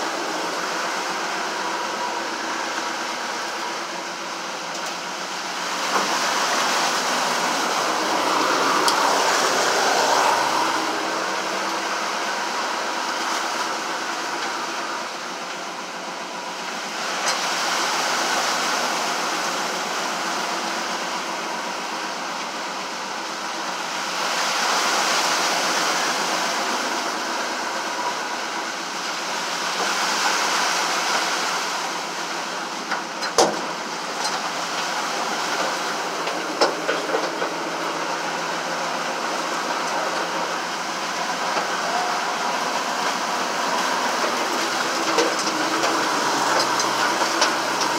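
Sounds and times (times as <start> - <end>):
vehicle engine: 0.0 - 47.9
water rushing under car: 0.0 - 47.9.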